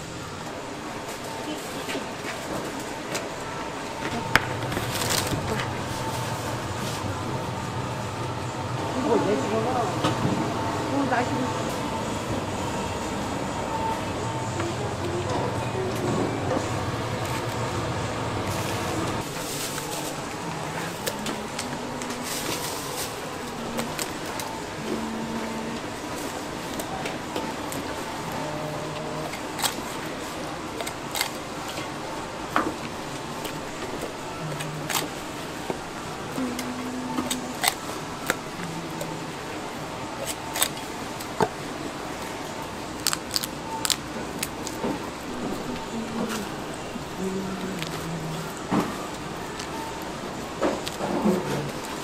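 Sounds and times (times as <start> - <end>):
steady background hum: 0.0 - 52.0
steady background noise: 0.0 - 52.0.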